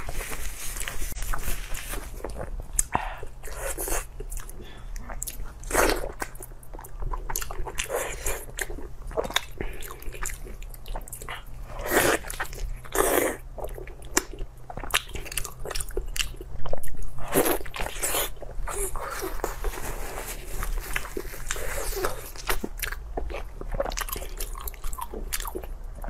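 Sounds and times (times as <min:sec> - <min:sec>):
person chewing wetly: 0:02.1 - 0:26.0.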